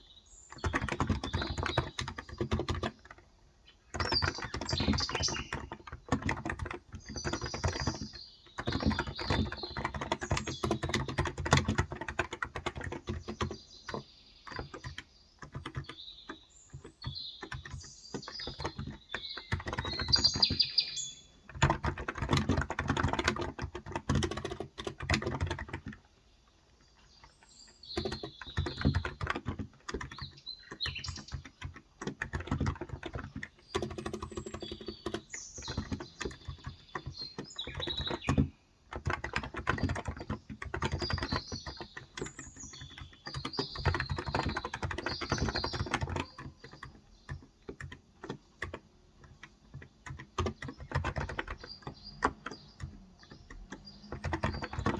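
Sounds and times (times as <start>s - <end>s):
birds chirping: 0.0s - 54.9s
keyboard typing: 0.5s - 54.9s.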